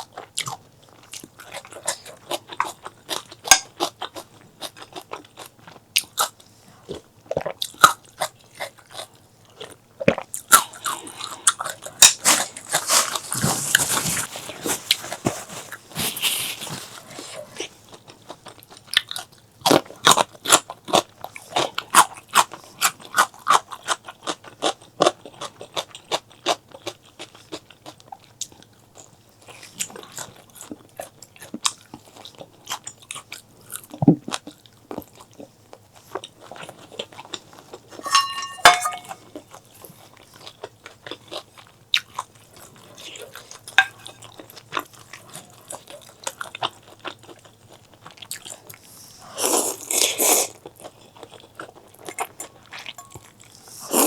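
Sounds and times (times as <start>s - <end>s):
crunching and chewing: 0.0s - 54.0s.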